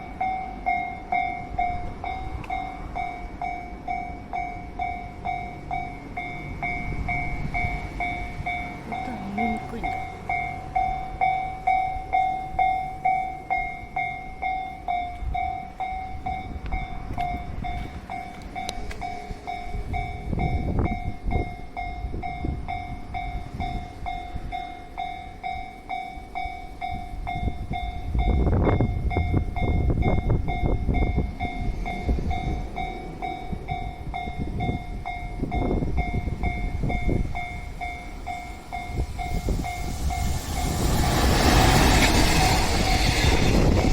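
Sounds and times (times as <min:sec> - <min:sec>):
level-crossing alarm ringing: 0:00.0 - 0:28.4, 0:29.0 - 0:43.9
train rumbling over crossing: 0:00.0 - 0:43.9.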